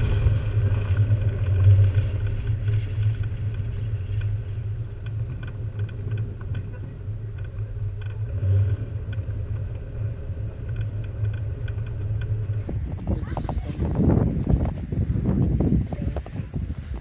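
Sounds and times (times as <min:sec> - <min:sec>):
engine and tyres rumbling: 0:00.0 - 0:17.0
light irregular ticks: 0:00.7 - 0:14.9.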